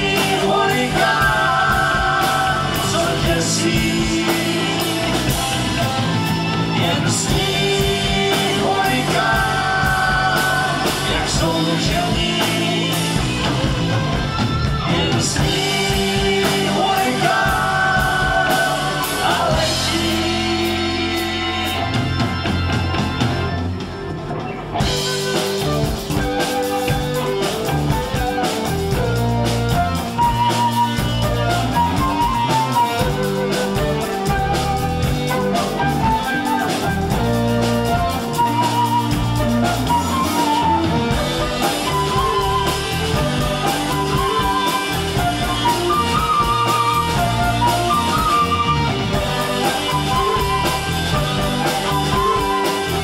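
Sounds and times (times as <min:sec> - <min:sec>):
drum kit playing a steady beat: 0:00.0 - 0:53.0
electric guitar: 0:00.0 - 0:53.0.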